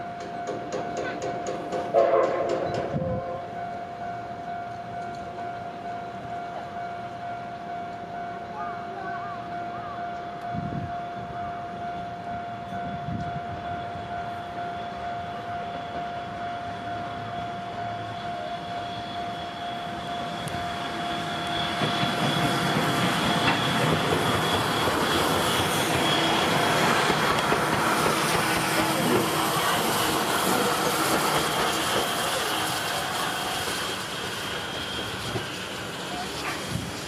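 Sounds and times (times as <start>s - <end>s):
level-crossing alarm: 0.0s - 36.9s
steam locomotive passing: 0.0s - 37.0s.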